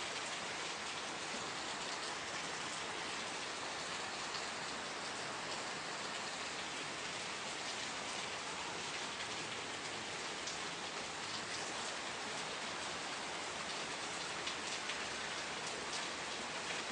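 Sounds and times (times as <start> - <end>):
rain pattering: 0.0 - 16.9.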